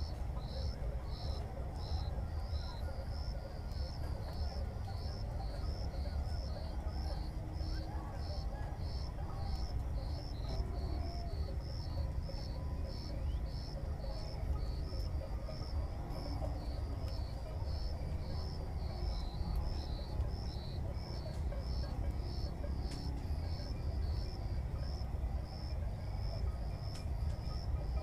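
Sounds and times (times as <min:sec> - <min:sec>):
insect chirping: 0:00.4 - 0:28.0.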